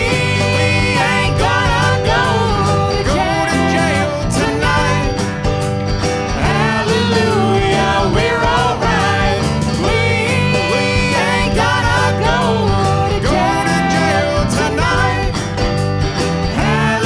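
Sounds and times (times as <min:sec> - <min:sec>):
band playing country song: 0:00.0 - 0:17.0
sliding lead melody: 0:00.0 - 0:17.0.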